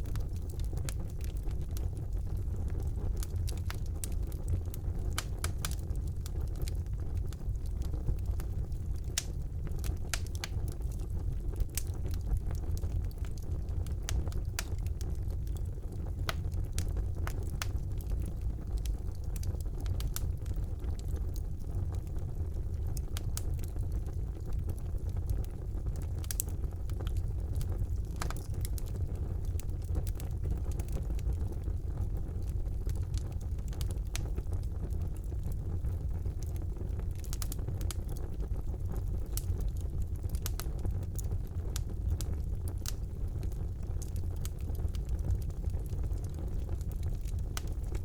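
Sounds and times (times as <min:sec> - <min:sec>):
fire flames rumbling: 0:00.0 - 0:48.0
logs crackling and popping: 0:00.0 - 0:48.0.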